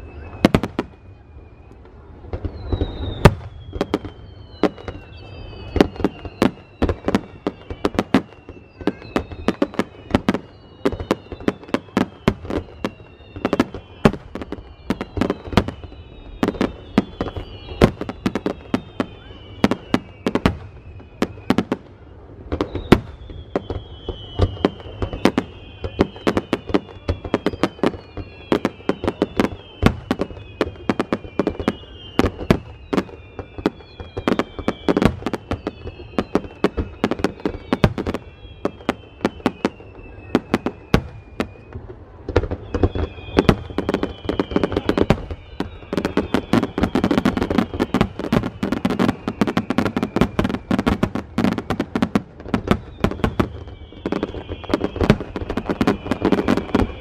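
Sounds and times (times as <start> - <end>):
firework bangs and crackles: 0.0 - 57.0
firework whistles: 0.0 - 57.0.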